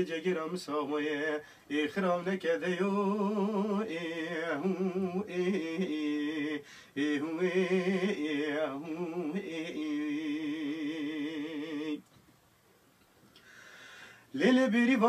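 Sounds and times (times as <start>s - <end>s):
man singing unaccompanied: 0.0s - 12.1s, 14.3s - 15.0s.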